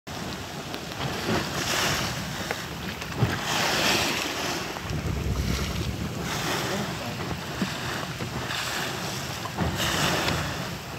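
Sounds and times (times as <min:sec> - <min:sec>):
water splashing along boat bow: 0:00.1 - 0:10.9
wind buffeting microphone: 0:00.1 - 0:10.9.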